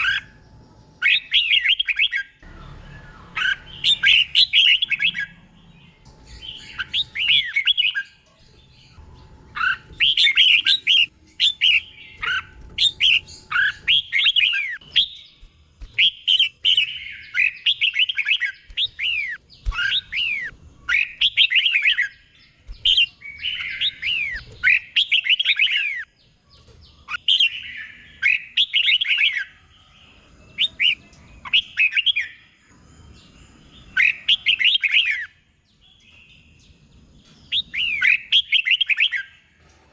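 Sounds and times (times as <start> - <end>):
bulbul singing whistled phrases: 0.0 - 35.4, 37.5 - 39.4.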